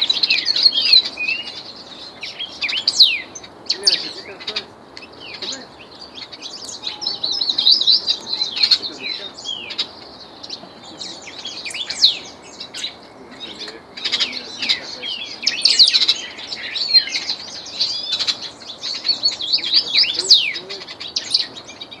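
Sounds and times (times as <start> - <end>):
bird singing chirps and whistles: 0.0 - 4.3, 5.0 - 22.0.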